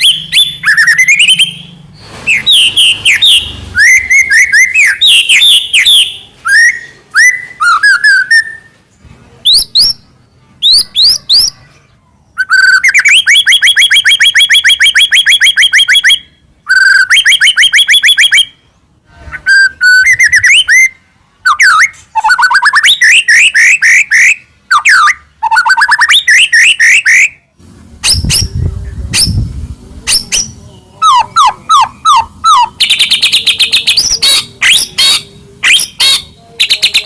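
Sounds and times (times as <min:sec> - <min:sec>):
bird singing whistled trills: 0:00.0 - 0:08.8, 0:12.4 - 0:18.7, 0:19.3 - 0:29.4, 0:30.1 - 0:37.0.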